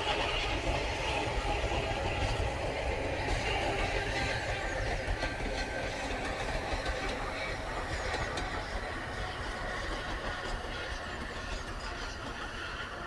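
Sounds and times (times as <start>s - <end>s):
steam locomotive rumble: 0.0s - 13.0s.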